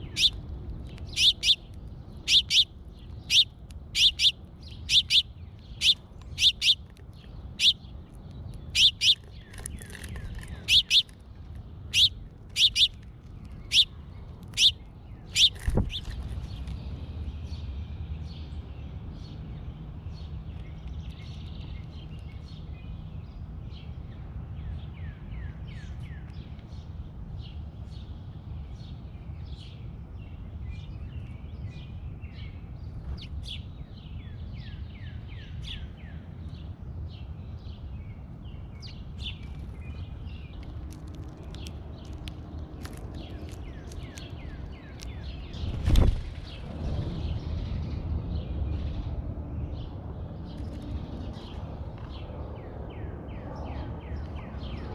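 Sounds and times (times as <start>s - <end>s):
birds chirping: 0.0s - 19.4s, 28.8s - 54.9s
steady low rumble: 0.0s - 54.9s.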